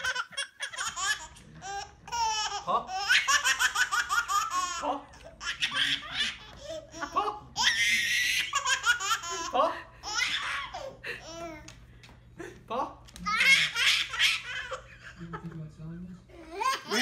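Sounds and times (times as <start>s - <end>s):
baby laughing: 0.0s - 11.8s, 13.3s - 15.2s, 16.3s - 17.0s.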